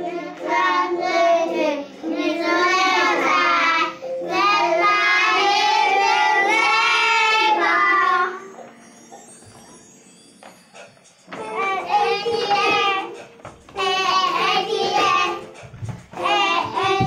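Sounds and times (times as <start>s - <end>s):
children singing: 0.0s - 8.7s, 11.3s - 17.0s.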